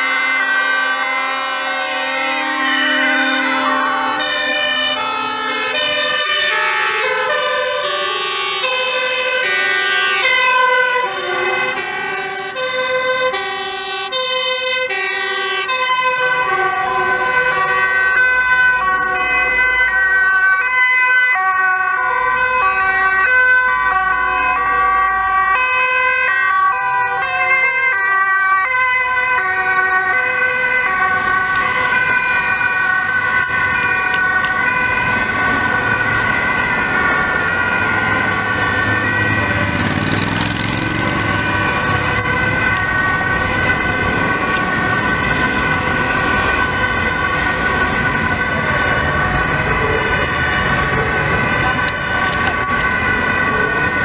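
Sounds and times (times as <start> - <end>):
emergency vehicle sirens: 0.0 - 54.0
heavy vehicle engines: 0.0 - 54.0.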